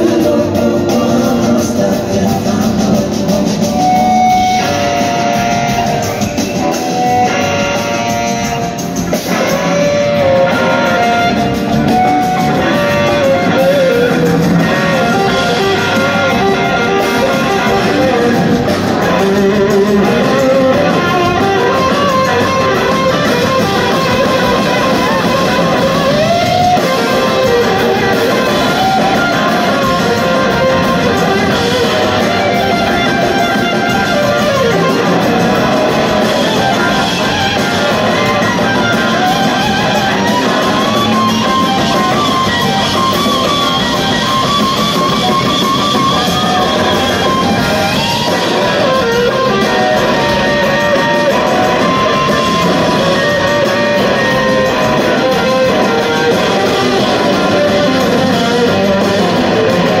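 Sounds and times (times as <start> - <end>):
lead guitar bending notes: 0.0 - 60.0
live rock band playing: 0.0 - 60.0.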